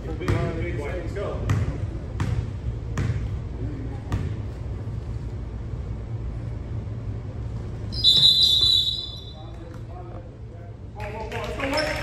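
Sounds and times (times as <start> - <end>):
low rumble of hall: 0.0 - 12.0.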